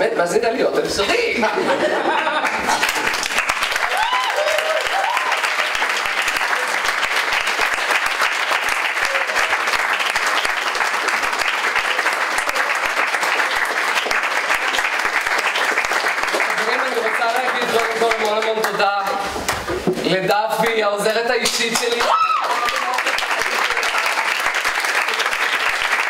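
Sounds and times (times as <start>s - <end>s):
audience clapping: 2.0s - 20.0s, 20.6s - 26.0s.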